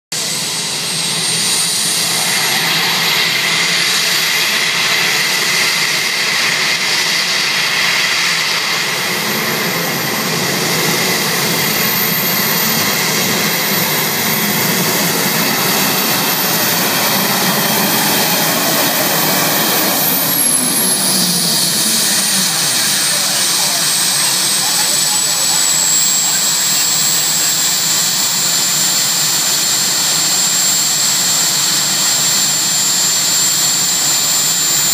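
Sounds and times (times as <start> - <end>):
high engine whine: 0.1 - 34.9
tractor engine at full power: 0.1 - 34.9.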